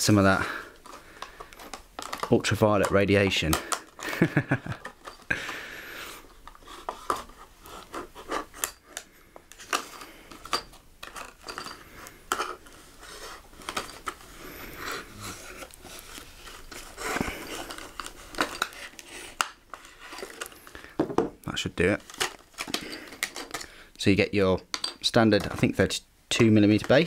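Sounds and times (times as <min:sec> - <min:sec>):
plastic crackling: 0:00.2 - 0:05.6, 0:06.3 - 0:21.0, 0:21.8 - 0:24.0.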